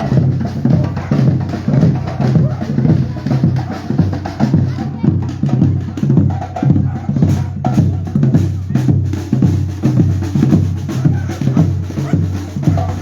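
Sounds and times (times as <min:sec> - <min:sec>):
bass drums beating: 0:00.0 - 0:13.0
snare drums: 0:00.0 - 0:13.0.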